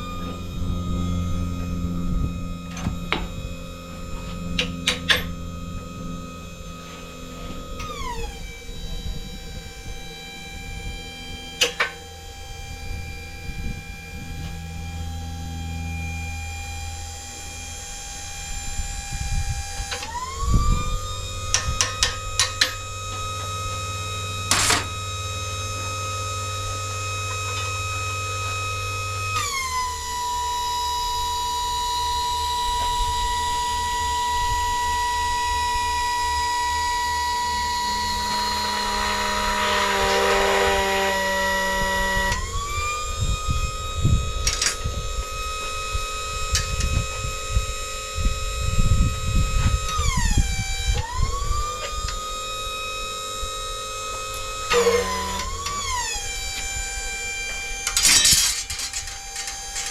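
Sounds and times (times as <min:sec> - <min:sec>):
power tool motor whining: 0:00.0 - 0:59.9.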